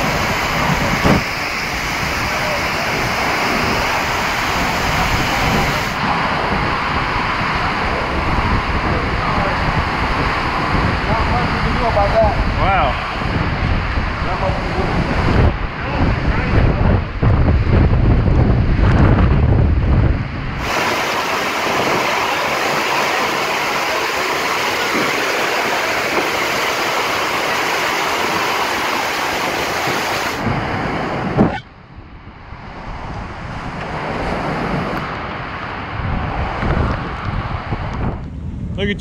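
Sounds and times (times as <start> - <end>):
heavy wind-driven rain: 0.0 - 39.0
rushing wind: 0.0 - 39.0.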